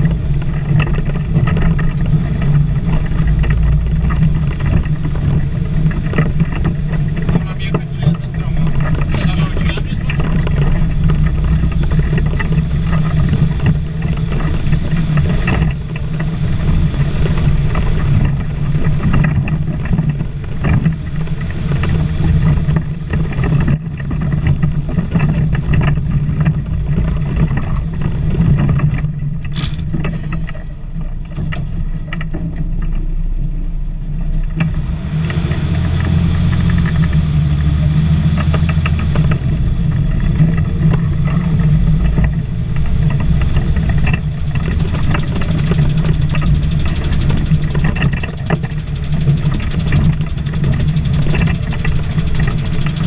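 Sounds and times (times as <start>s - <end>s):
knocks and rattles: 0.0s - 53.0s
truck engine running under load: 0.0s - 53.0s.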